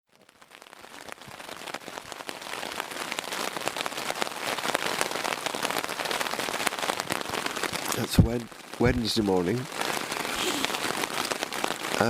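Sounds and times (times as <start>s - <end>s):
heavy rain on tent fabric: 0.0s - 12.0s.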